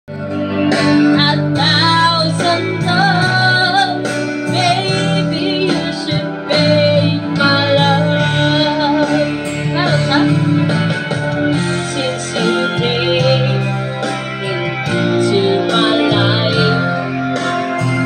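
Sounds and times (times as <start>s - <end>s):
backing track with guitar: 0.1s - 18.0s
woman singing into microphone: 0.3s - 10.9s, 11.5s - 18.0s.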